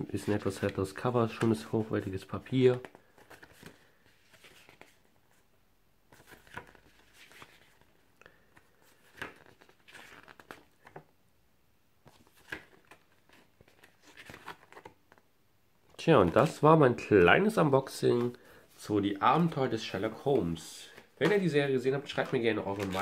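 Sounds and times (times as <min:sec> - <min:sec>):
paper pages turning: 0:00.1 - 0:05.4, 0:06.1 - 0:11.1, 0:12.0 - 0:15.2, 0:15.9 - 0:23.0.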